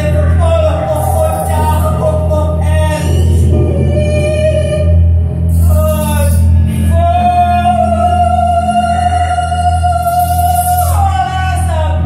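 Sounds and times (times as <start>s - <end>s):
low electronic drone: 0.0s - 12.0s.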